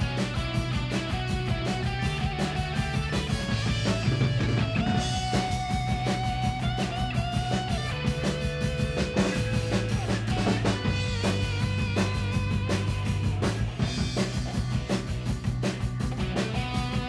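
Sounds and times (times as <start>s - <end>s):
drum kit playing: 0.0s - 17.0s
rock instrumental with electric guitar: 0.0s - 17.0s.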